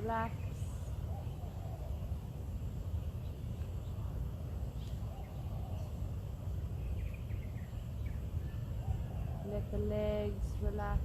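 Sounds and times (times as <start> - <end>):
faint bird chirps: 0.0 - 10.6
steady low rumble: 0.0 - 11.0.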